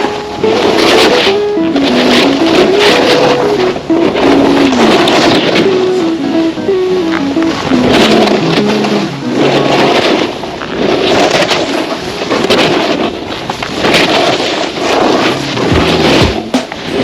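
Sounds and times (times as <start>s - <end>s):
skis scraping on hard snow: 0.0s - 6.0s, 7.4s - 17.0s
wind rush on microphone: 0.0s - 17.0s.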